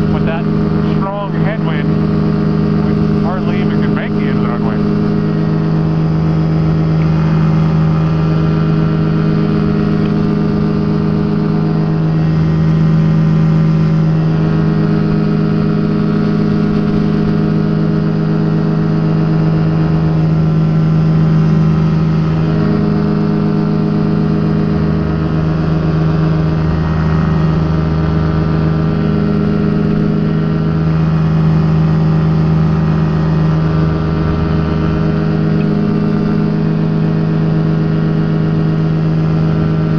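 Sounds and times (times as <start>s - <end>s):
ultralight aircraft engine droning: 0.0s - 39.9s.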